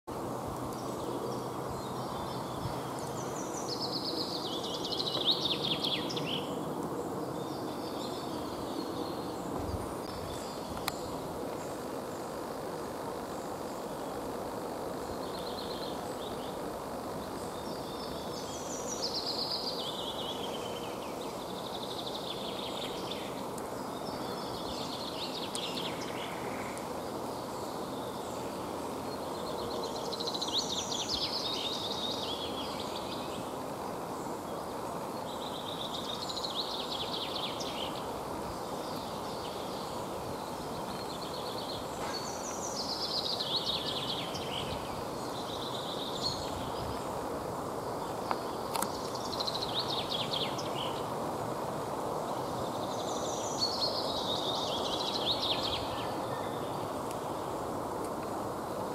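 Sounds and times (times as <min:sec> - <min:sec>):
songbird singing falling phrases: 0:00.1 - 0:12.2, 0:14.9 - 0:33.6, 0:34.2 - 0:47.2, 0:47.8 - 0:51.2.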